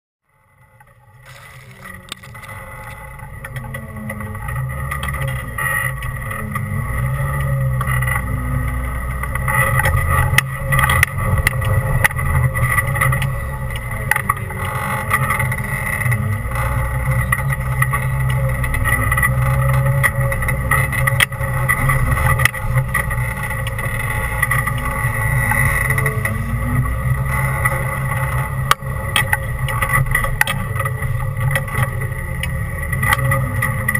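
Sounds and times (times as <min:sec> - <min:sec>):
engine running low: 0:00.2 - 0:33.9
high whine: 0:00.2 - 0:33.9.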